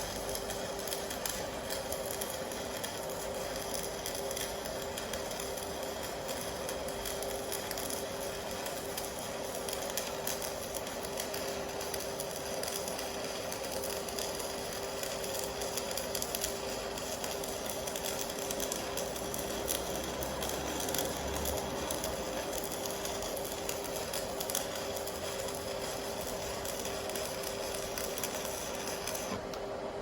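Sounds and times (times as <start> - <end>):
welding arc crackling: 0.0 - 29.6
welder hum: 0.0 - 30.0.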